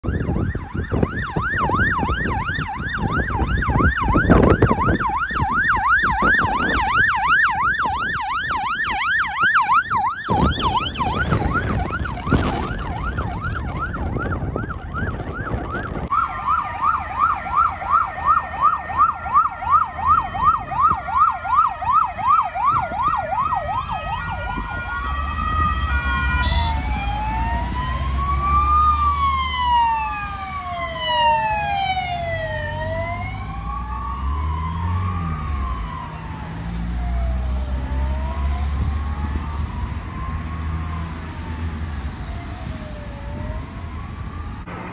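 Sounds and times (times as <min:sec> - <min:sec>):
siren yelping: 0:00.0 - 0:44.7
siren wailing: 0:00.0 - 0:44.9
vehicle engine rumble: 0:02.7 - 0:44.9.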